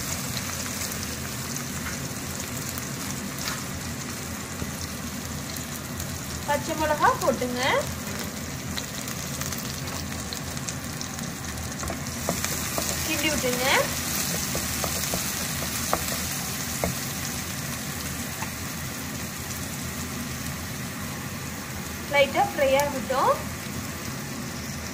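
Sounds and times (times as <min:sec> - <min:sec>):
food sizzling in hot oil: 0:00.0 - 0:24.9.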